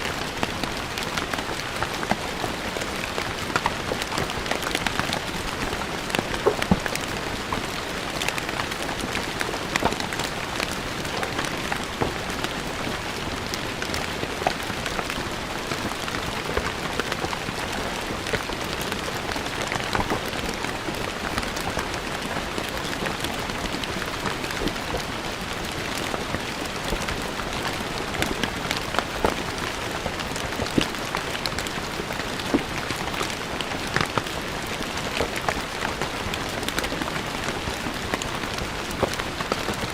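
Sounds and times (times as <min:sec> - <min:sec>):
rain falling on stone paving: 0:00.0 - 0:39.9.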